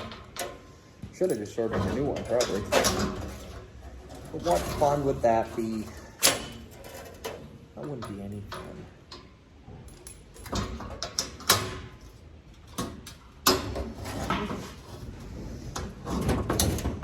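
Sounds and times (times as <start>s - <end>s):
sheet steel scraping and knocking: 1.4s - 9.3s, 10.6s - 17.0s.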